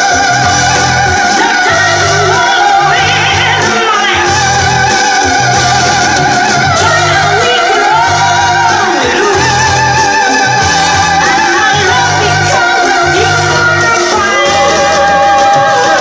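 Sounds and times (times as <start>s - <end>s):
high vibrato melody: 0.0s - 16.0s
pulsing bass: 0.0s - 16.0s.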